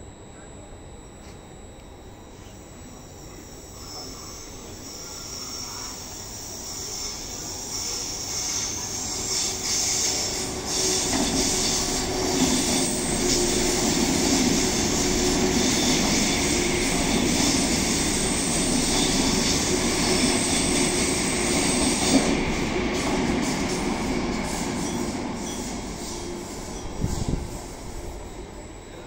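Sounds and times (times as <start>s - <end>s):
electric train wheels on rails: 2.3s - 29.0s.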